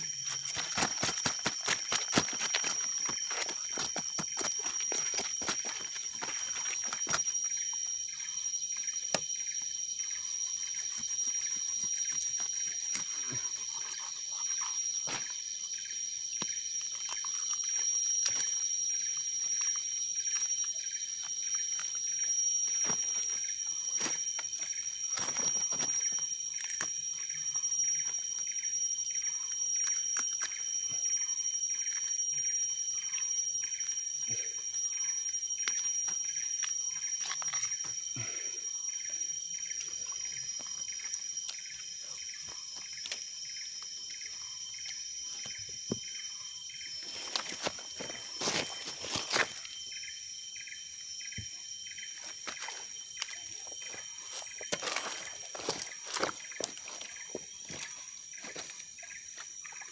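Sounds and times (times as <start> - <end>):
high-pitched insect drone: 0.0 - 59.9.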